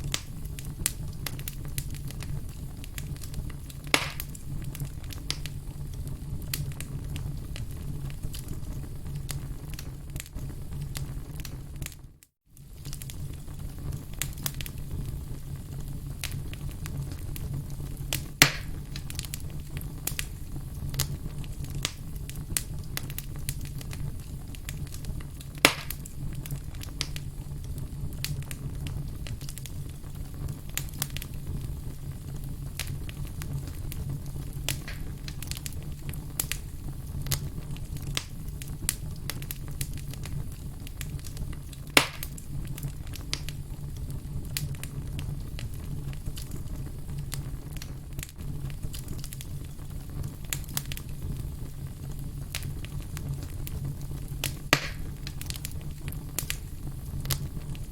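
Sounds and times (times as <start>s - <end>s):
loud fire pops: 0.0s - 57.9s
wood fire crackling: 0.0s - 57.9s.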